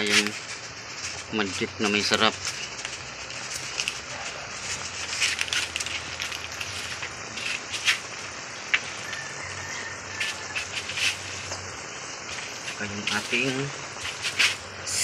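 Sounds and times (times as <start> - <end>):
sharp pops: 0.0 - 9.3, 10.1 - 15.0
food sizzling and crackling: 0.0 - 15.0.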